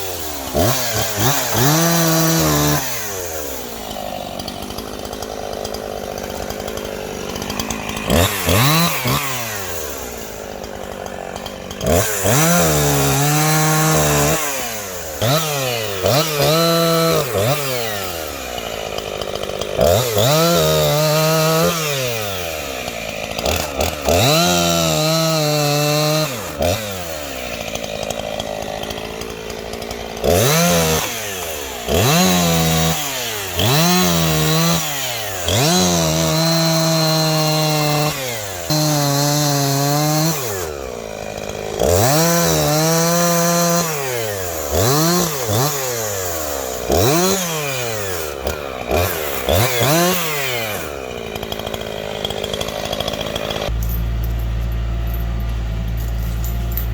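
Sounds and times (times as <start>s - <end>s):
chainsaw revving and cutting wood: 0.0s - 56.9s.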